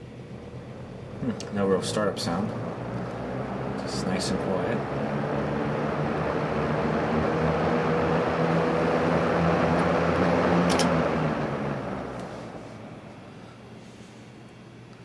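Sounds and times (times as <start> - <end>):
box fan humming: 0.0 - 15.0.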